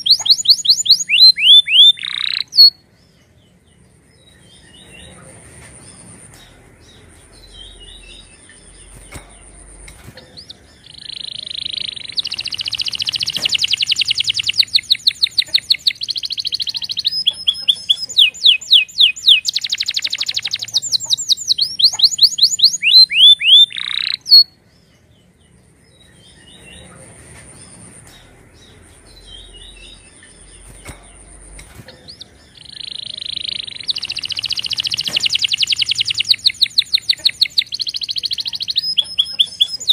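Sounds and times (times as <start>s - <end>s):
canary singing trills: 0.0s - 39.9s
soft bird chirps: 0.0s - 39.9s.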